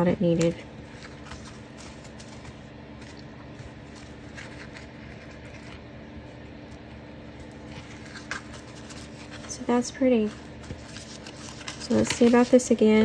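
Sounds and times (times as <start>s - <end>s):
steady low hum: 0.0s - 13.0s
fingers rustling lace and paper: 0.2s - 13.0s.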